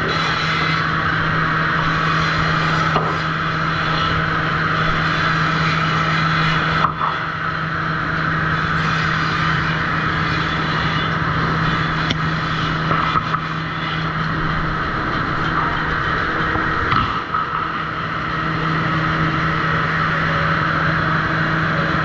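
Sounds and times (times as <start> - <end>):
constant low hum: 0.0 - 22.0
sawmill machinery running: 0.0 - 22.0.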